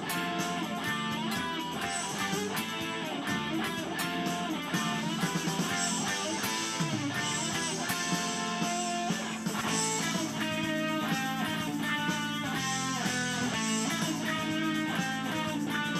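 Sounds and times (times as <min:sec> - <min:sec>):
electric guitar instrumental music: 0:00.0 - 0:15.9.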